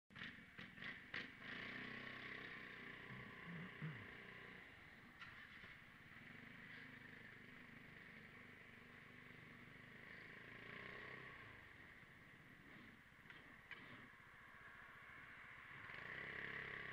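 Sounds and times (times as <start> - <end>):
scooter engine running at low speed: 0.1 - 16.9.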